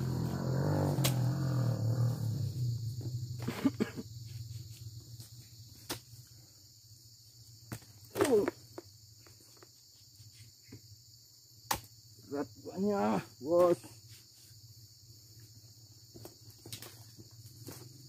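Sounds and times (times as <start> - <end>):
insects droning high-pitched: 0.0 - 18.0.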